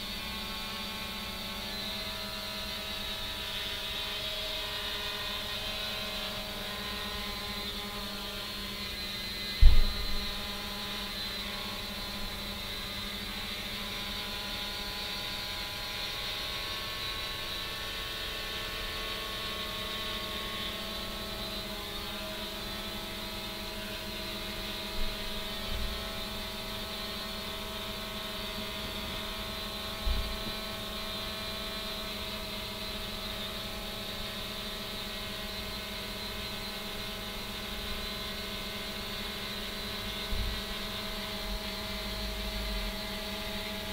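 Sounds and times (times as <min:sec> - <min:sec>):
drone motors and propellers: 0:00.0 - 0:43.9.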